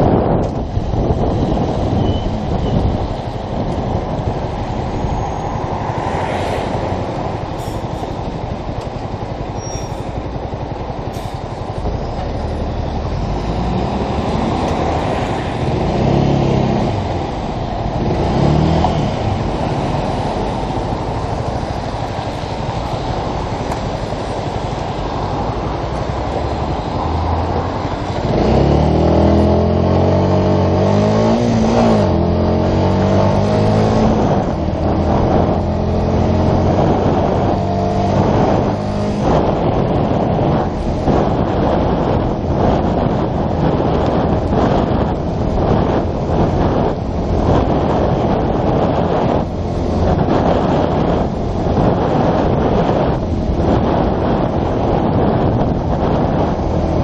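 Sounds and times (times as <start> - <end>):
motorcycle engine accelerating: 0.0 - 57.0
steady rushing noise: 0.0 - 57.0.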